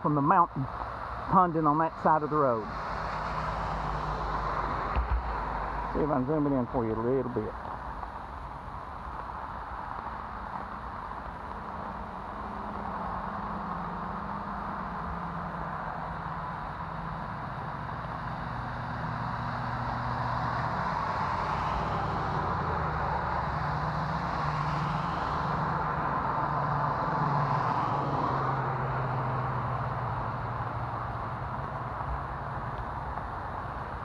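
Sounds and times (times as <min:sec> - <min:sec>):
low engine hum: 0:00.0 - 0:34.0
tyres hissing on wet pavement: 0:00.0 - 0:34.0.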